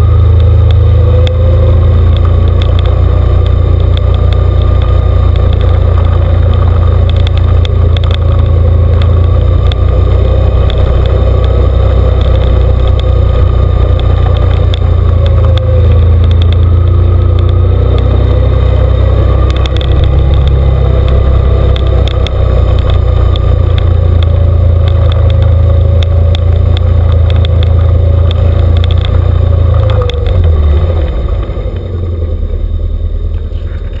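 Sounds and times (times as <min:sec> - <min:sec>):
off-road vehicle engine running: 0:00.0 - 0:34.0.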